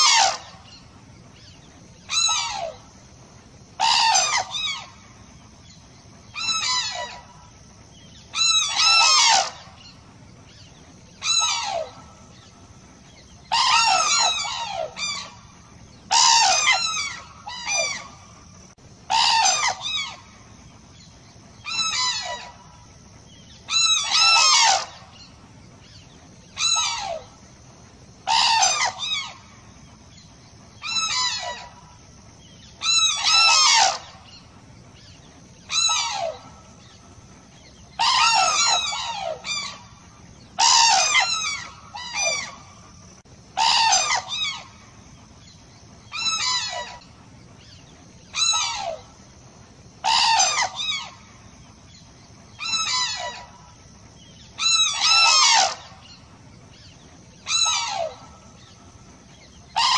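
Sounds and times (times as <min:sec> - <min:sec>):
cranes trumpeting calls: 0:00.0 - 0:59.9.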